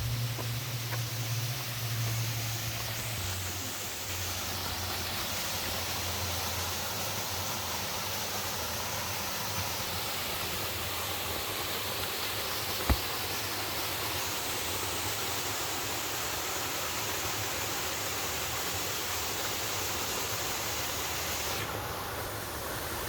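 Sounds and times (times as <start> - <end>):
waterfall hissing: 0.0 - 23.0.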